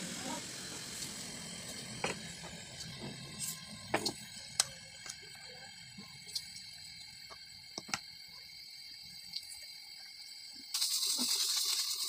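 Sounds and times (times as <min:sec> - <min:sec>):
spices clicking in a pot: 0:01.0 - 0:12.0.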